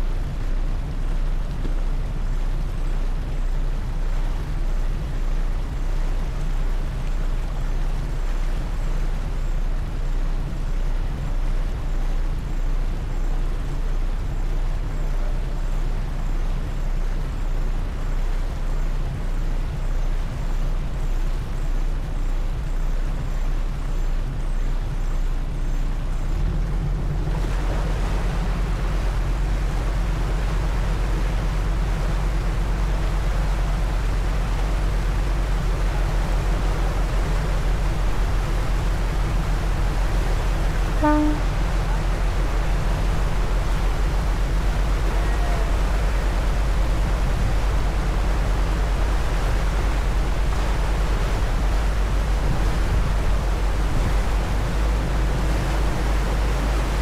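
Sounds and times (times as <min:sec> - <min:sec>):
ferry engines low drone: 0:00.0 - 0:57.0
water wash: 0:00.0 - 0:57.0
wind noise: 0:00.0 - 0:57.0.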